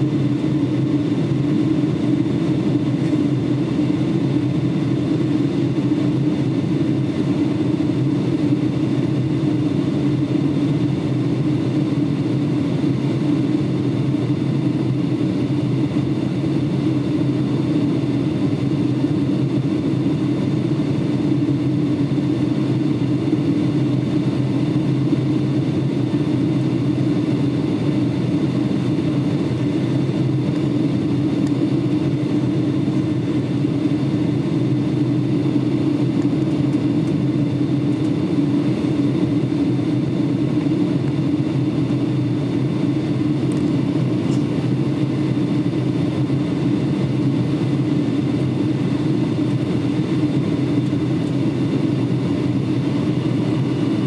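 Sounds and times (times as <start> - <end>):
aircraft cabin engine drone: 0.0 - 54.0.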